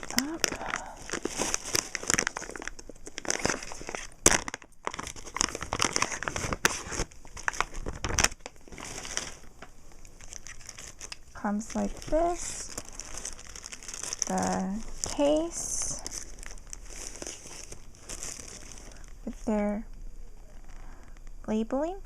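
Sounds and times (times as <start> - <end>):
packaging crinkling and tearing: 0.0 - 19.5.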